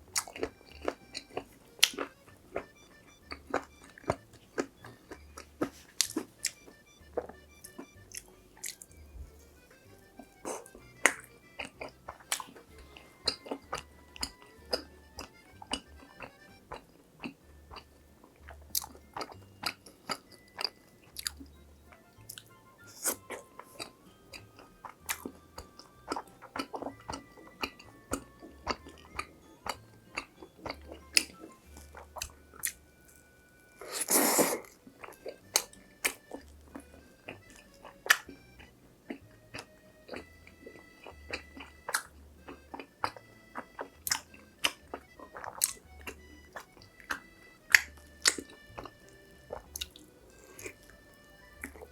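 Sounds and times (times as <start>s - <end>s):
chewing crispy fried food: 0.0s - 51.9s
soft background music: 0.0s - 51.9s.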